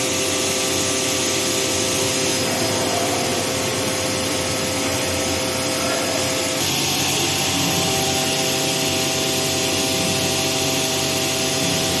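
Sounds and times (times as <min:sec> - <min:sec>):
spindle whine: 0:00.0 - 0:12.0
metal cutting hiss: 0:00.1 - 0:12.0.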